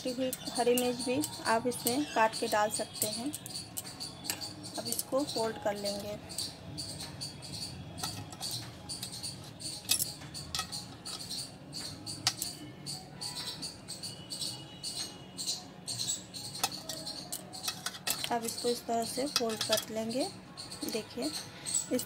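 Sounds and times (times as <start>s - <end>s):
steady high chirping: 0.0s - 22.0s.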